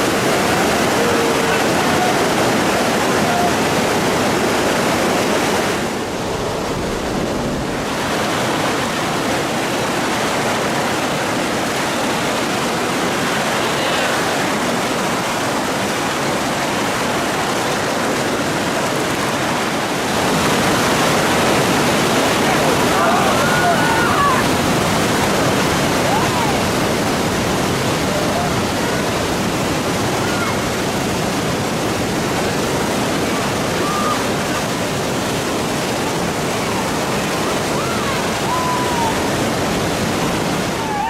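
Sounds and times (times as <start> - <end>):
river rapids rushing: 0.0 - 41.0.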